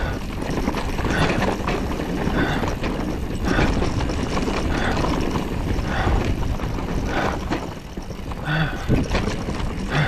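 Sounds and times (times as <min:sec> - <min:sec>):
bike knocking and rattling: 0:00.0 - 0:10.0
bike tyres rumbling on dirt: 0:00.0 - 0:10.0
wind buffeting microphone: 0:00.0 - 0:10.0.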